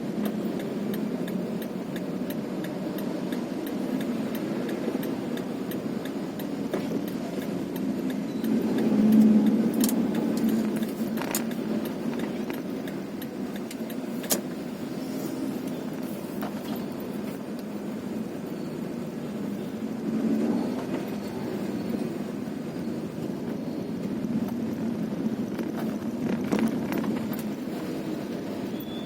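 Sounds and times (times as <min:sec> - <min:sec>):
road noise: 0:00.0 - 0:29.0
vehicle engine rumble: 0:00.0 - 0:29.0.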